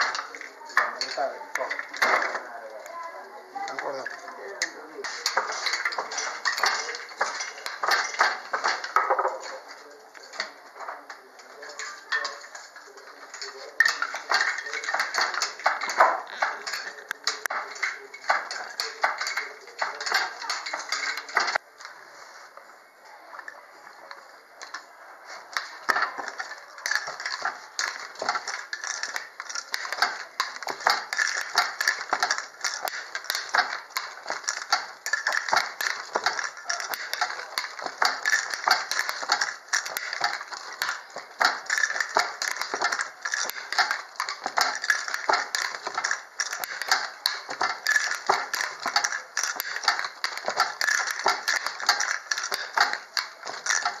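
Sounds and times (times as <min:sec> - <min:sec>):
handloom clattering: 0:00.0 - 0:21.6, 0:24.6 - 0:54.0.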